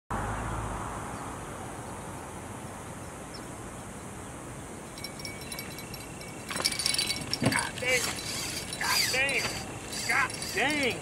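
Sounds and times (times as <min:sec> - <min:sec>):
outdoor background noise: 0:00.1 - 0:11.0.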